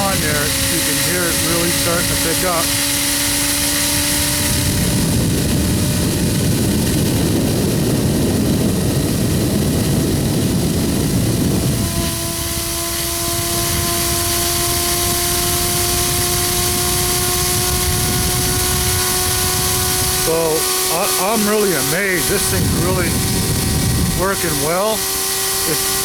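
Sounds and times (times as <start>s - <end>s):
turbine whine rising in pitch: 0.0s - 26.0s.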